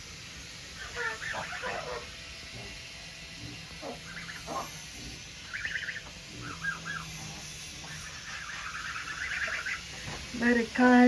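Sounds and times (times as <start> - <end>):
chickens clucking: 0.8 - 10.3.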